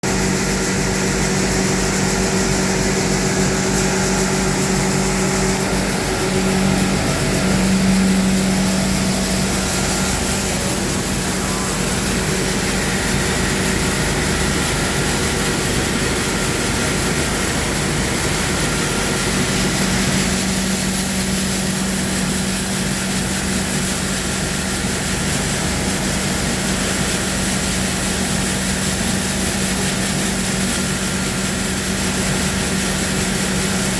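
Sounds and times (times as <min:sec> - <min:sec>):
processing machine motor hum: 0:00.0 - 0:33.9.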